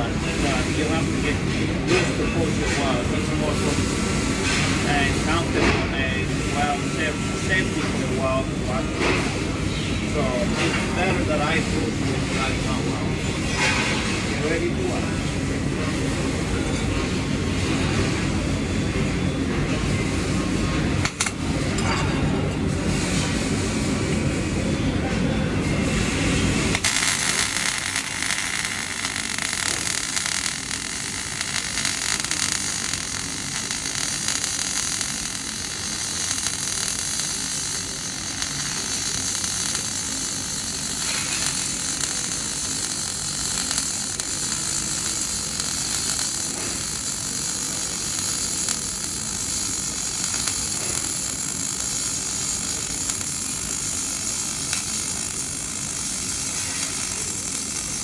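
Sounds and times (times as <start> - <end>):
welding arc crackling hiss: 0.0 - 14.7, 19.7 - 21.8, 25.7 - 58.0.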